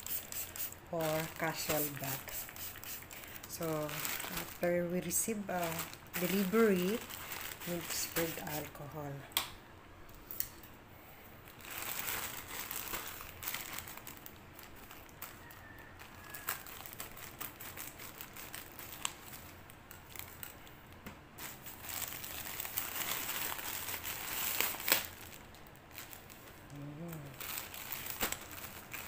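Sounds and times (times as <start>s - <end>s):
sharp plastic crackle: 0.1s - 9.5s, 11.4s - 29.0s
plastic mailer crinkling: 0.4s - 8.9s, 11.5s - 20.6s, 21.4s - 29.0s.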